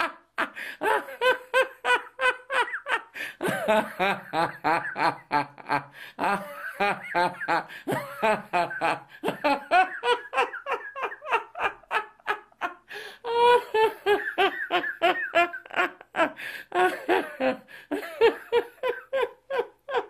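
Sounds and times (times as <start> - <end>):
man laughing hard: 0.0 - 20.0.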